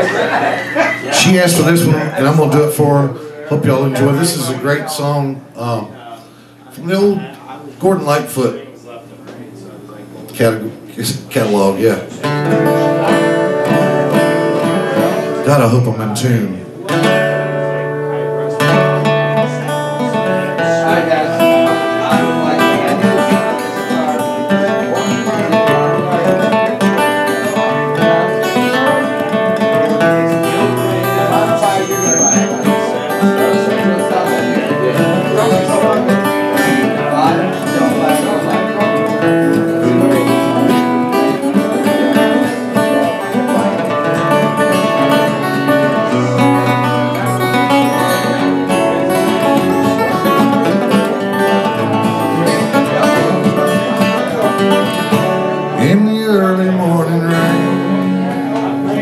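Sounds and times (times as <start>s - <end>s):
acoustic guitar picking: 0.0s - 59.0s.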